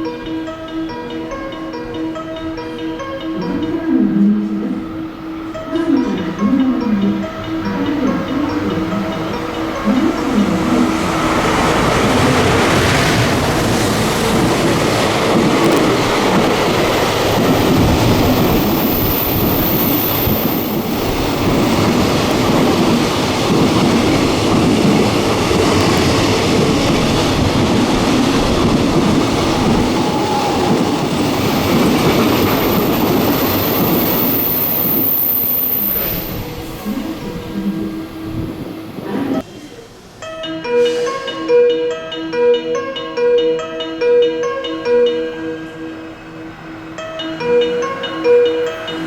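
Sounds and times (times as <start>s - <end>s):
train passing at speed: 3.4s - 41.3s, 45.4s - 49.0s.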